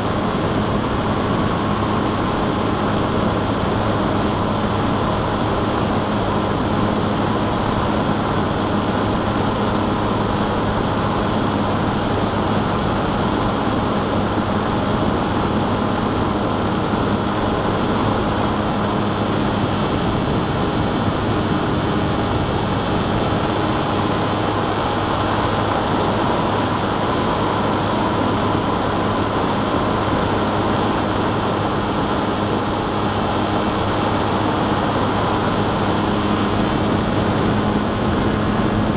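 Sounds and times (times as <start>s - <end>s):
model aircraft motor drone: 0.0s - 38.9s.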